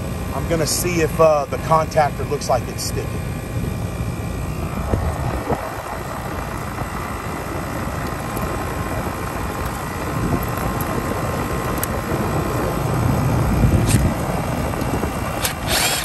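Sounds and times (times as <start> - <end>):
air conditioner fan and hum: 0.0 - 16.0.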